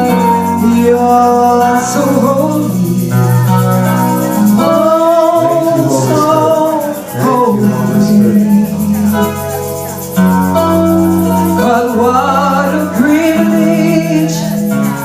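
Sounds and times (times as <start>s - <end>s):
worship song singing: 0.0s - 3.6s, 4.3s - 10.1s, 11.3s - 15.0s.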